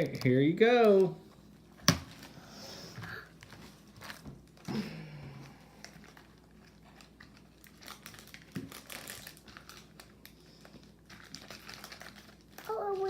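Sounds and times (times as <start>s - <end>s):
plastic wrappers crinkling: 0.0s - 1.2s, 2.0s - 4.7s, 5.4s - 13.0s.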